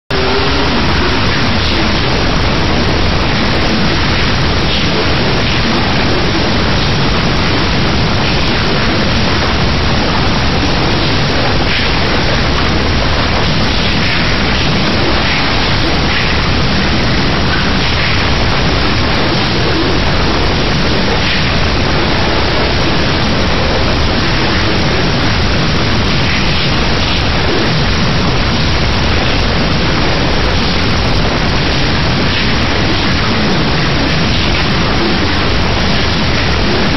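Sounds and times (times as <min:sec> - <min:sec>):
loud steady hiss: 0:00.1 - 0:36.9.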